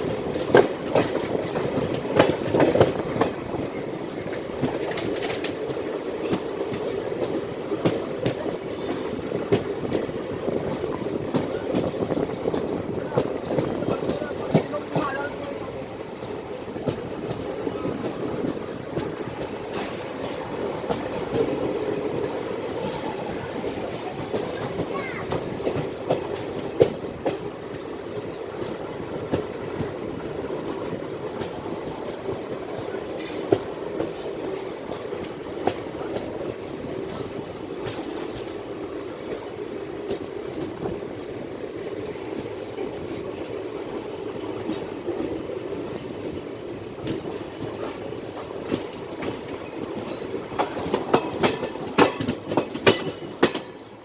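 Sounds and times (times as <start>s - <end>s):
train rumbling on track: 0.0s - 54.0s
wheels clacking over rail joints: 0.0s - 54.0s.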